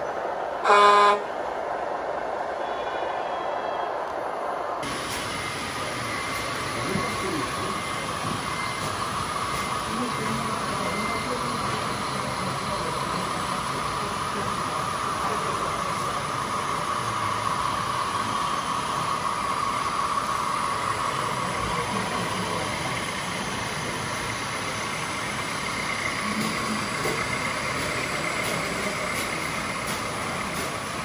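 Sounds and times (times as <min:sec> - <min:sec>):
hiss: 0:04.8 - 0:31.0.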